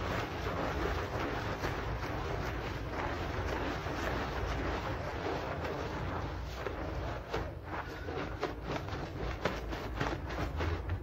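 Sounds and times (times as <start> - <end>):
scrub brush scrubbing wet rug: 0.0 - 11.0.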